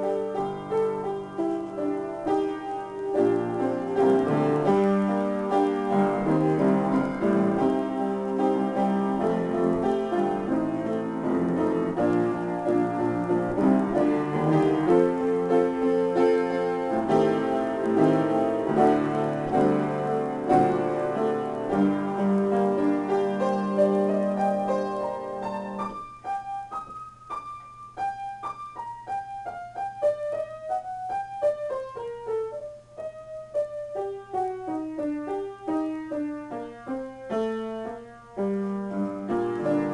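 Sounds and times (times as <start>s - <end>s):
solo piano improvisation: 0.0s - 39.9s.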